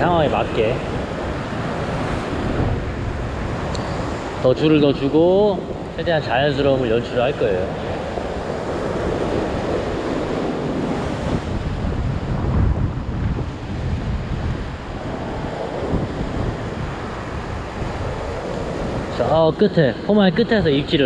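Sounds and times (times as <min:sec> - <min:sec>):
ocean surf on rocks: 0:00.0 - 0:21.0
wind buffeting microphone: 0:00.0 - 0:21.0.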